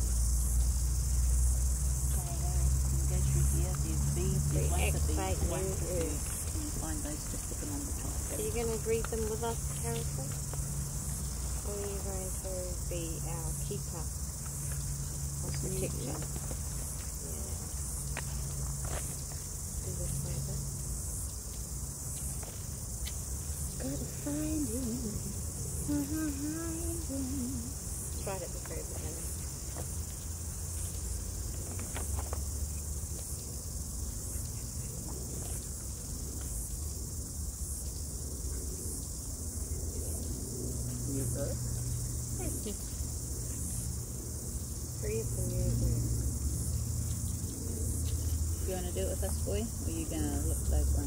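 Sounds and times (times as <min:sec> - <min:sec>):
insects chorus: 0:00.0 - 0:51.0.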